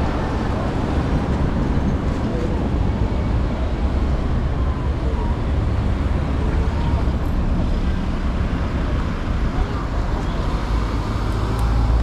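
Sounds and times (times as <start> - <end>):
faint voices: 0.0 - 12.0
road traffic rumble: 0.0 - 12.0.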